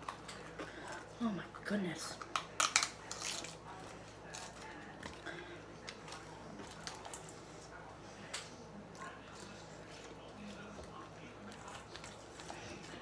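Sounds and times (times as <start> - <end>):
light clicks and rustles of eating: 0.0 - 1.2, 2.0 - 13.0.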